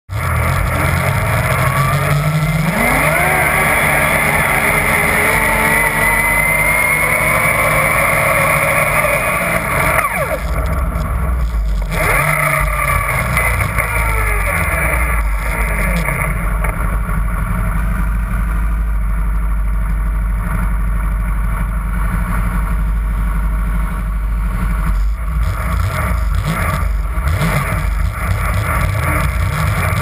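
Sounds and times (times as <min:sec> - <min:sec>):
snowmobile engine accelerating: 0:00.1 - 0:19.1, 0:23.8 - 0:30.0.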